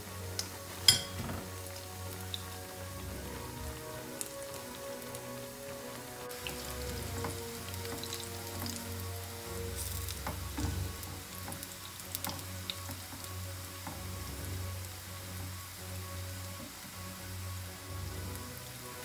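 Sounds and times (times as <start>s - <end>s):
plantain sizzling in hot oil: 0.2s - 19.0s.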